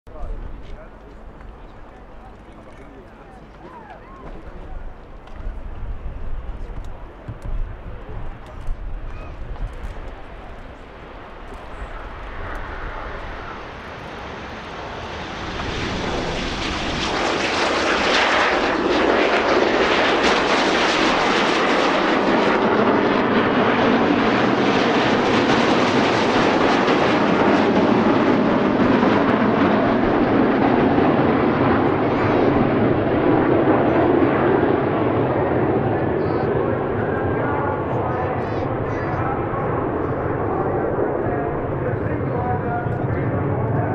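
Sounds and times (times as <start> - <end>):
jets taking off: 0.1 - 43.9.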